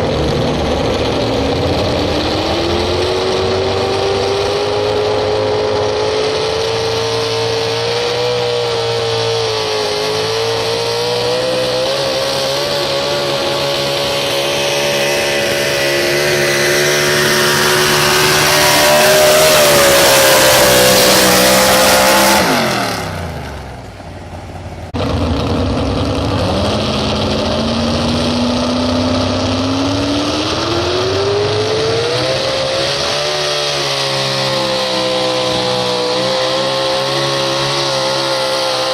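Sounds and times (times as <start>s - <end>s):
truck engine revving hard: 0.0s - 38.9s.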